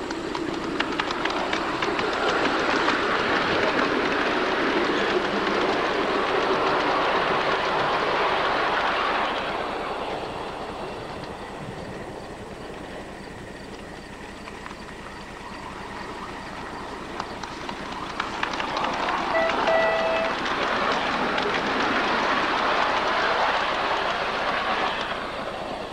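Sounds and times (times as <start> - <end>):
wheels clicking over rail joints: 0.0 - 9.2, 13.6 - 25.2
wheels rushing on rail: 0.0 - 25.9.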